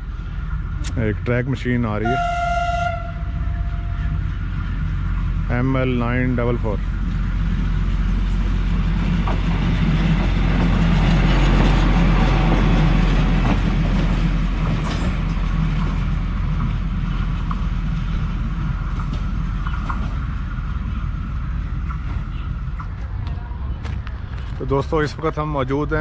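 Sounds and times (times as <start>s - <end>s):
rail machine rumbling past: 0.0s - 26.0s.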